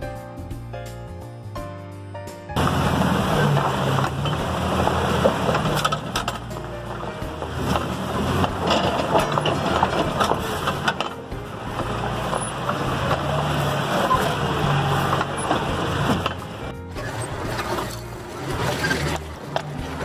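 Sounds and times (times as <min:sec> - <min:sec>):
car engine running under load: 0:02.6 - 0:20.0
tires crunching over rock: 0:02.6 - 0:20.0.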